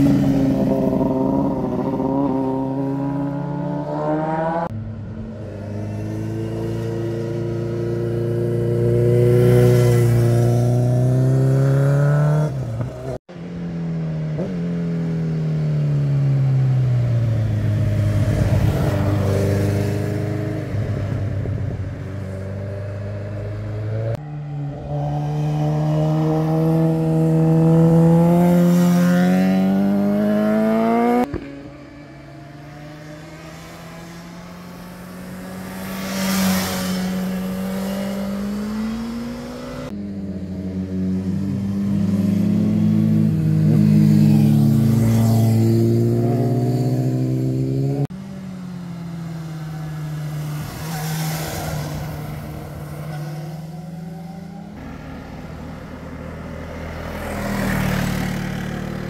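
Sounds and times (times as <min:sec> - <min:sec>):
motorcycle engines accelerating: 0:00.0 - 0:13.3, 0:14.2 - 0:59.0.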